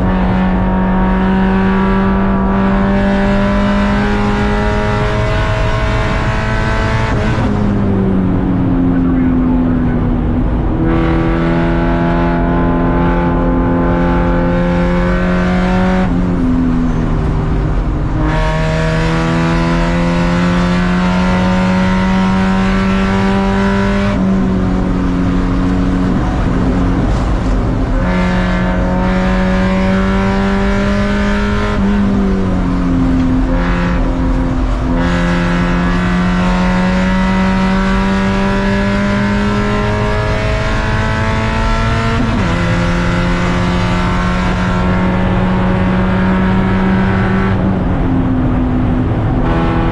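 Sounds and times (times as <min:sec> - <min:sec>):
race car engine running hard: 0:00.0 - 0:49.9.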